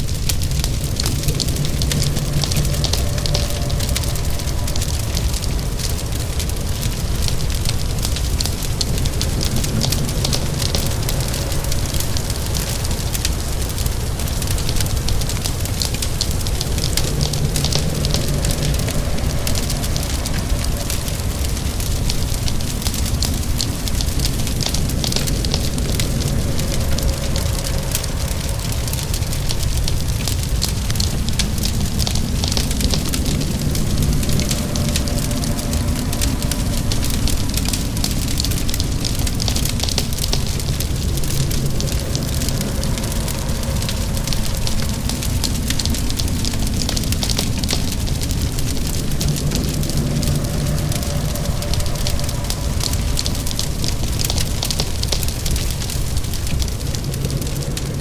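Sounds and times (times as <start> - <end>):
low rumble: 0.0 - 58.0
rain falling: 0.0 - 58.0
wood fire crackling: 0.0 - 58.0.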